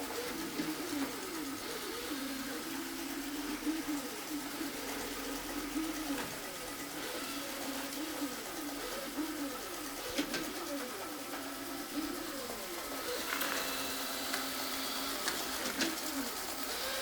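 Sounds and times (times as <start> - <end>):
robot vacuum motor hum: 0.0 - 17.0.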